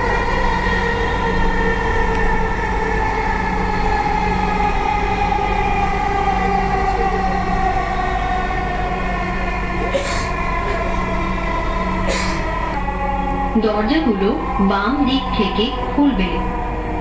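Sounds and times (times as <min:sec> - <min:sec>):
train motors whining: 0:00.0 - 0:17.0
wheels rumbling on track: 0:00.0 - 0:17.0.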